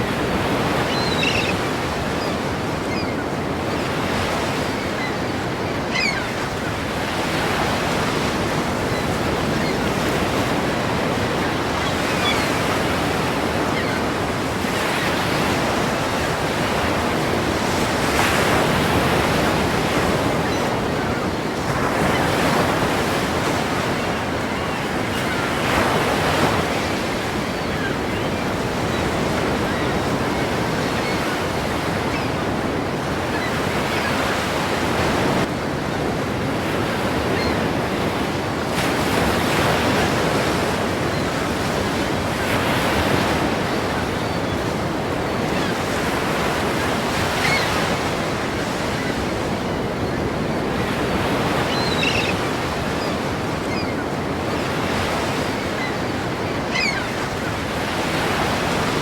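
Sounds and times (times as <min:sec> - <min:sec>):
ocean waves crashing: 0:00.0 - 0:59.0.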